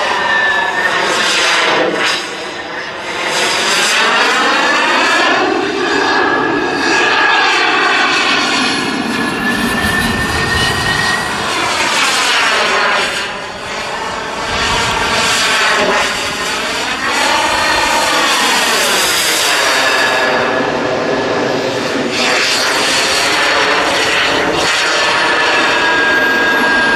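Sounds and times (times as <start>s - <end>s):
model jet engine whine: 0.0s - 26.9s.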